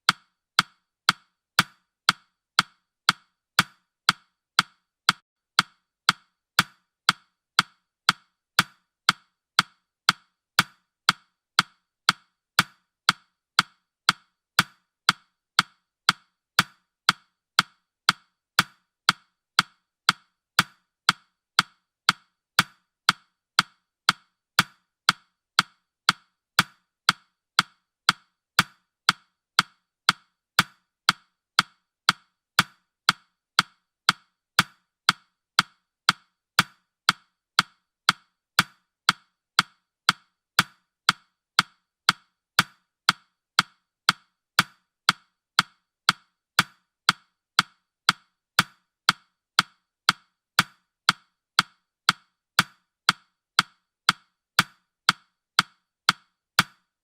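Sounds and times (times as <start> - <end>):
clock ticking: 0.0 - 56.8.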